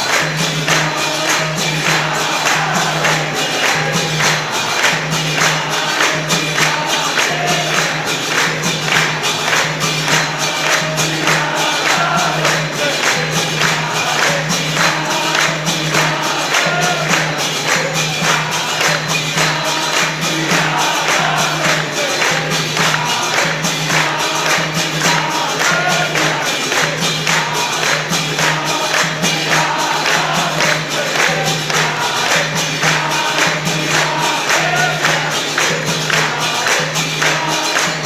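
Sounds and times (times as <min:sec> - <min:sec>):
congregation singing: 0:00.0 - 0:38.0
jingling percussion: 0:00.0 - 0:38.0
people clapping in time: 0:00.0 - 0:38.0.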